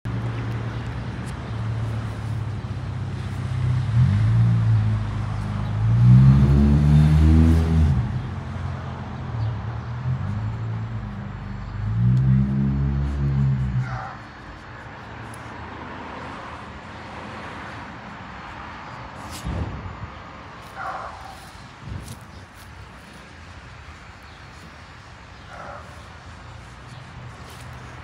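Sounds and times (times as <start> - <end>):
vehicle engines humming: 0.1 - 28.0
vehicle passing: 0.1 - 28.0.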